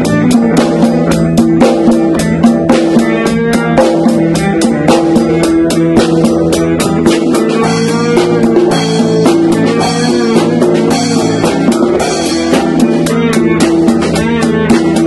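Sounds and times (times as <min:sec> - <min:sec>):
band playing loudly: 0:00.0 - 0:15.0
drum kit beat with cymbals: 0:00.0 - 0:15.0
held guitar notes: 0:00.0 - 0:15.0.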